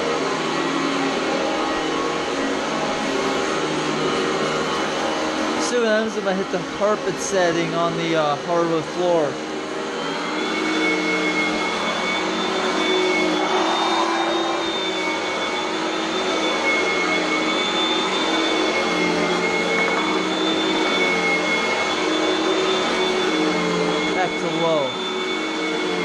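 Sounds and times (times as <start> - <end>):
vacuum cleaner motor whine: 0.0 - 26.0.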